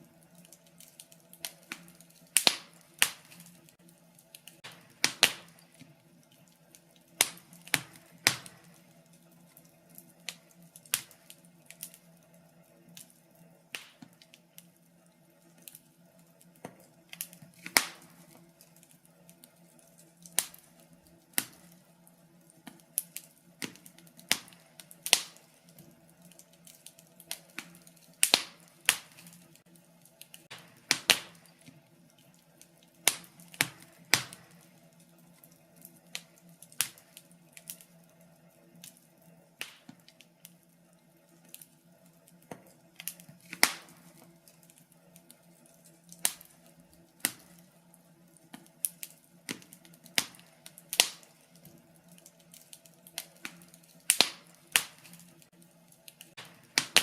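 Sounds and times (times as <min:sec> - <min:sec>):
faint steady hum: 0:00.0 - 0:57.0
fire crackling: 0:00.0 - 0:57.0.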